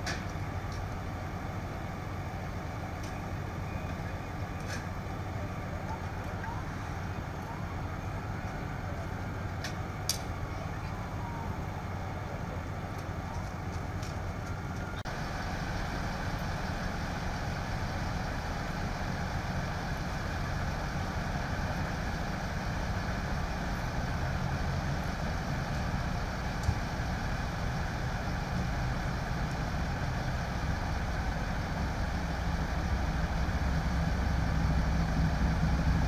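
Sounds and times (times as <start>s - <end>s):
idling vehicle engines: 0.0s - 36.0s.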